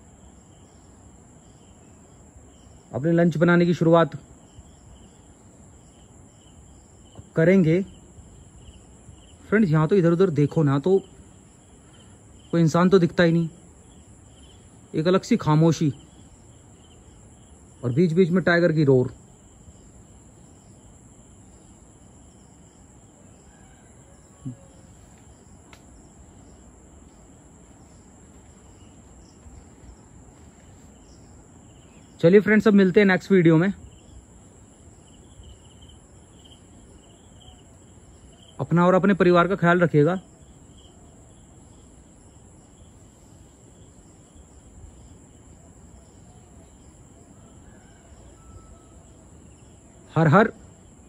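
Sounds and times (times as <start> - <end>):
insects chirping: 0.0 - 51.0
outdoor hiss: 0.0 - 51.0.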